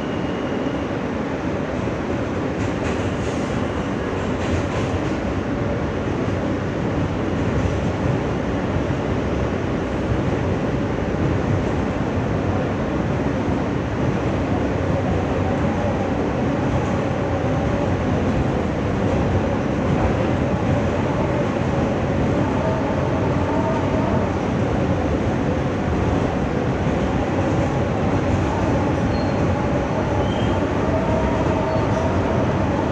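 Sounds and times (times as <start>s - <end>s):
subway car rumbling: 0.0s - 32.9s.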